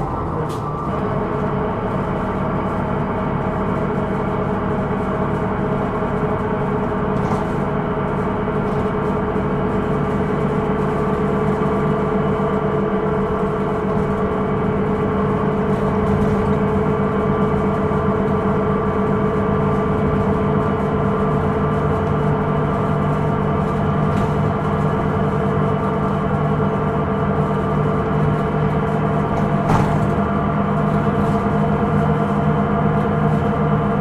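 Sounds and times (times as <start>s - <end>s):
bus engine and road drone: 0.0s - 34.0s.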